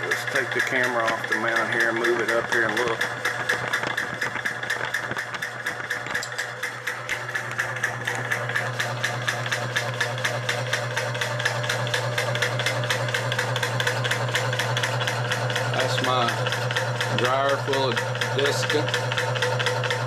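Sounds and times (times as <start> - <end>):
compressor hum: 0.0 - 20.0
compressor piston clattering: 0.0 - 20.0.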